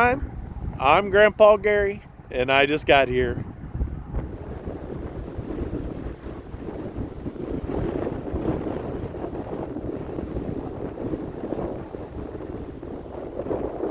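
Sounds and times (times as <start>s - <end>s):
gusty wind on microphone: 0.0s - 13.9s.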